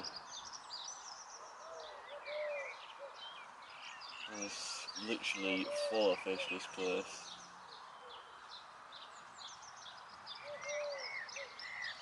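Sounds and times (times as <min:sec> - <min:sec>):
faint background hiss: 0:00.0 - 0:12.0
lower curved bird call: 0:00.0 - 0:12.0
small birds chirping: 0:00.0 - 0:12.0.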